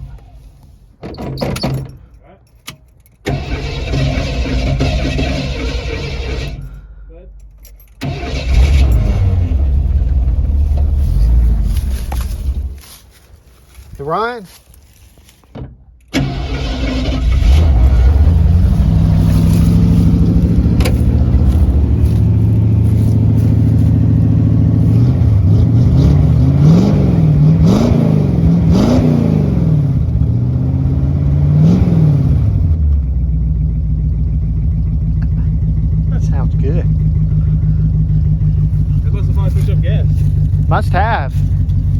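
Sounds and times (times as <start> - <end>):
car engine starting and revving: 3.3 - 6.7, 8.0 - 12.9, 16.1 - 41.9.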